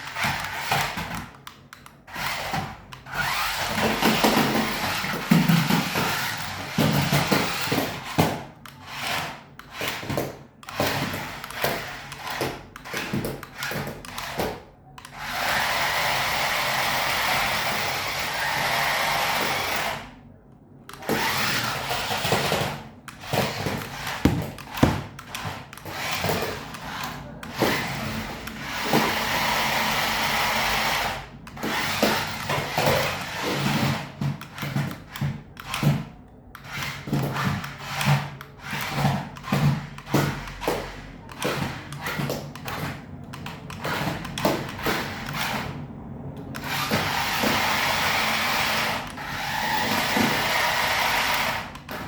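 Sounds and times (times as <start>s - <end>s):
toy car electric motor whirring: 0.0s - 20.3s, 20.9s - 45.8s, 46.4s - 52.0s.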